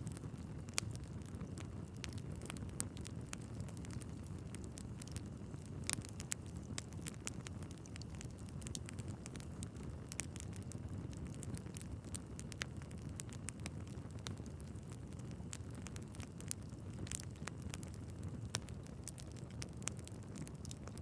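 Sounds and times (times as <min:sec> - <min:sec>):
crackles and pops of logs: 0:00.0 - 0:21.0
rumble of fire flames: 0:00.0 - 0:21.0.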